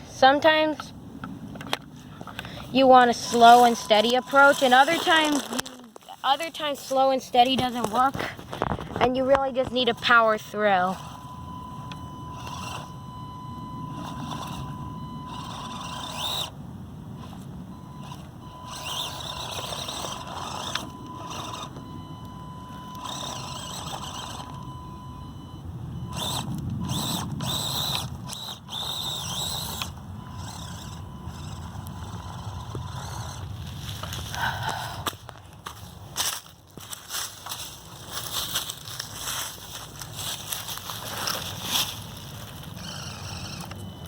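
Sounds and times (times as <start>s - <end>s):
small electric motor whining: 1.5s - 44.0s.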